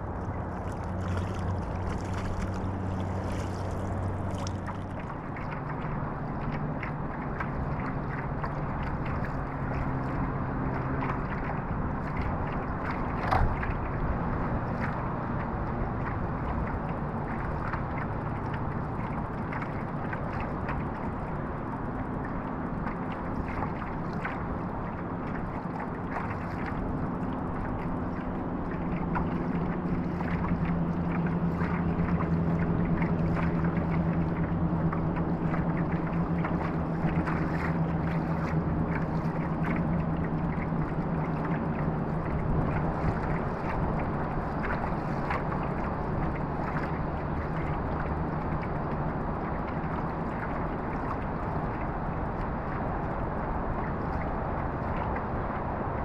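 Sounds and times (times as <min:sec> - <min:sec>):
low hum: 0:00.0 - 0:56.0
water washing along hull: 0:00.0 - 0:56.0.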